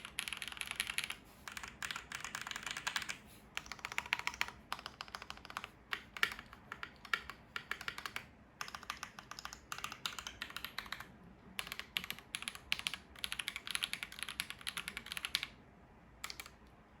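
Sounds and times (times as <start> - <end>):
typing on mechanical keyboard: 0.0 - 15.6, 16.2 - 16.6.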